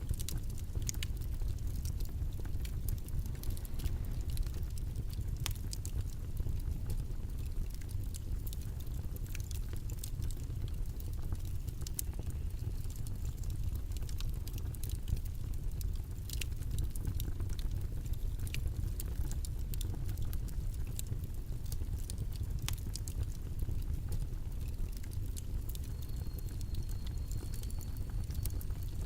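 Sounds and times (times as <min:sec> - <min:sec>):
low rumbling background noise: 0:00.0 - 0:29.0
small irregular clicks: 0:00.0 - 0:29.0.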